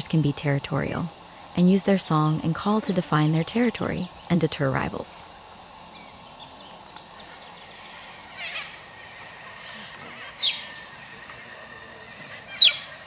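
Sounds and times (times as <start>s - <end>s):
bird calling sharp notes: 0.0s - 13.0s
steady background hiss: 0.0s - 13.0s.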